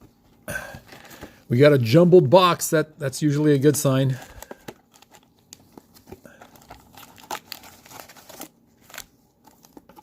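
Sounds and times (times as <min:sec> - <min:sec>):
card packs crinkling and rustling: 0:00.0 - 0:02.0, 0:03.2 - 0:10.0.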